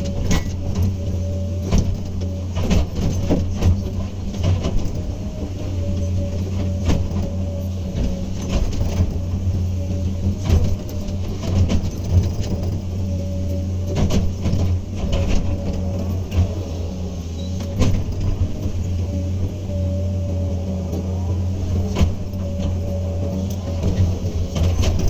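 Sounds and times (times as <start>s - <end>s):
excavator diesel engine running: 0.0s - 25.0s
high whine: 0.0s - 25.0s.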